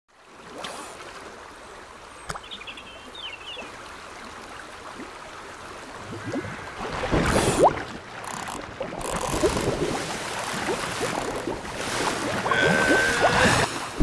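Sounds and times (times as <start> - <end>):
creek water over rocks: 0.1 - 14.0.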